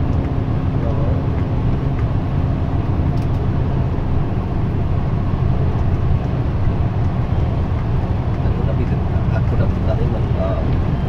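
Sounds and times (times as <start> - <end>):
tyres on road: 0.0 - 11.0
vehicle engine rumble: 0.0 - 11.0.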